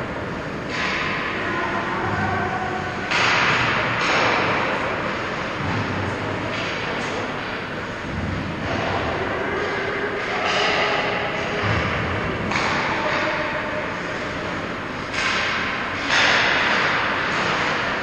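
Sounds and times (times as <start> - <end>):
ice rink rushing ambience: 0.0 - 18.0.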